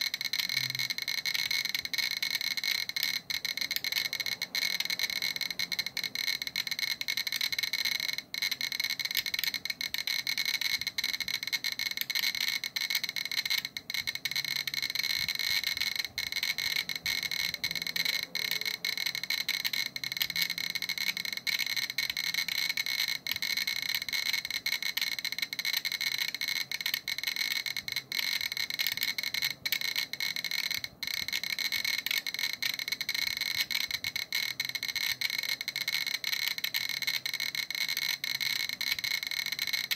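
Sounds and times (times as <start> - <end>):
geiger counter clicking rapidly: 0.0 - 39.9.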